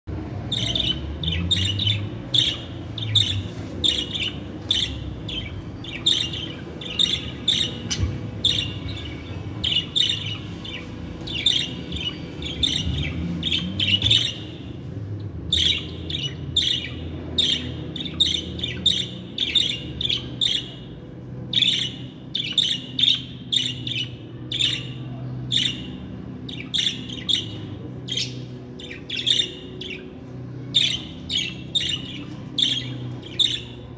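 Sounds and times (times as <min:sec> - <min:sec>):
budgerigars chirping and squawking: 0:00.4 - 0:33.9.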